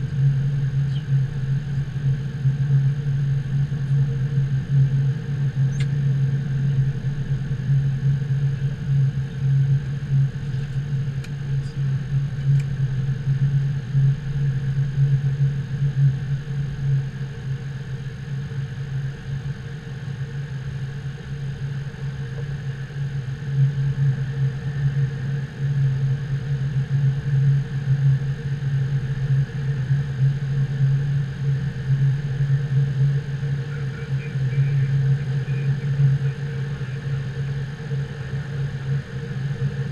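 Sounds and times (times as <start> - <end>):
faint high whine: 0.0 - 39.9
jet engines idling drone: 0.0 - 39.9.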